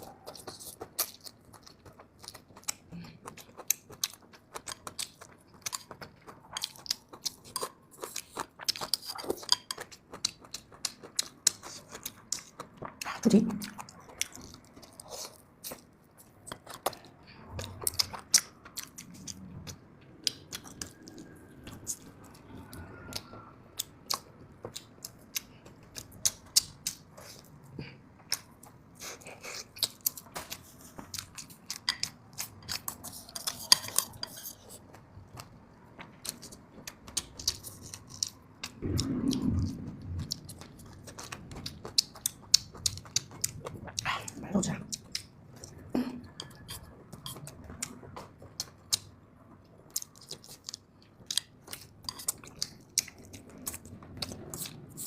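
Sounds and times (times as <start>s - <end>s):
person chewing and smacking: 0.0s - 55.0s.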